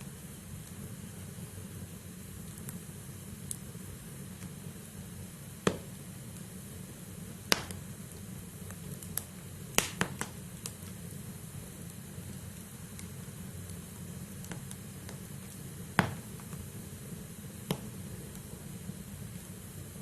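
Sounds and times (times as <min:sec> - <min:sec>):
low rush of flames: 0:00.0 - 0:20.0
firewood crackling and popping: 0:00.3 - 0:20.0.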